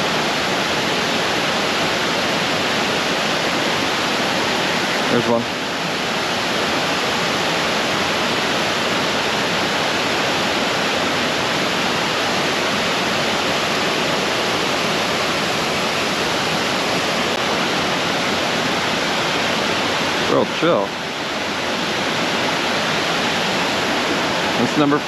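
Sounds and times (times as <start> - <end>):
creek water pouring over falls: 0.0 - 25.0.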